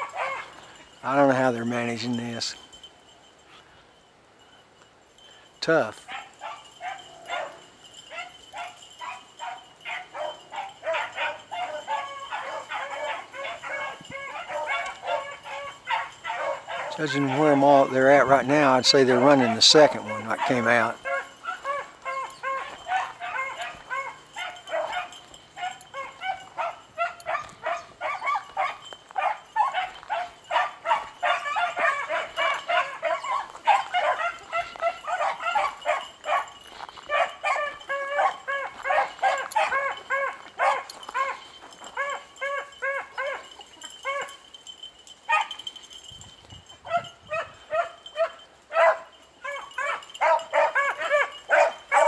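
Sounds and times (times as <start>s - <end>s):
beagles baying and barking: 0.0s - 52.0s.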